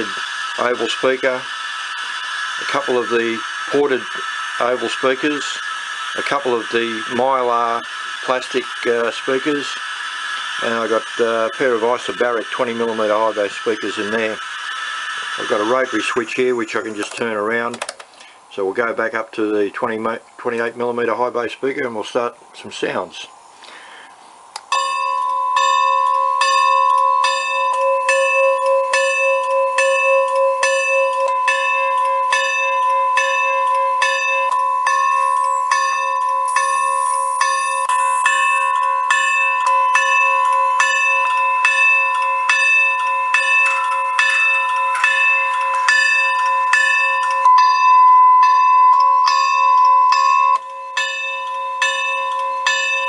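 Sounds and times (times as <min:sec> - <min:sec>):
locomotive bell clanging: 0:00.0 - 0:17.7, 0:24.7 - 0:53.0.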